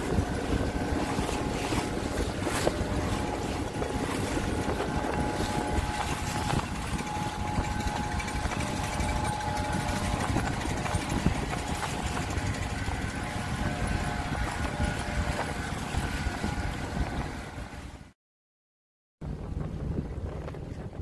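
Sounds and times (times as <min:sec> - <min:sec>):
wind on microphone: 0:00.0 - 0:18.1, 0:19.2 - 0:21.0
boat engine running: 0:00.0 - 0:18.2, 0:19.2 - 0:21.0
water noise: 0:00.0 - 0:18.2, 0:19.2 - 0:21.0.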